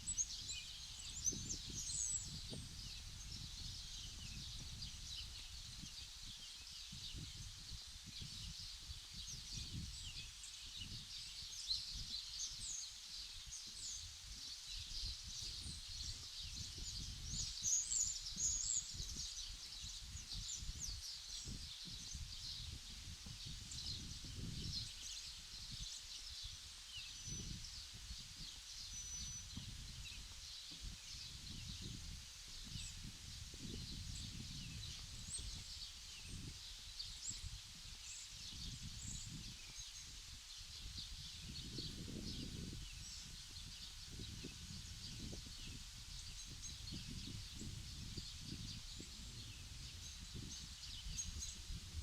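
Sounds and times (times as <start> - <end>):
small birds chirping and twittering: 0.0 - 52.0.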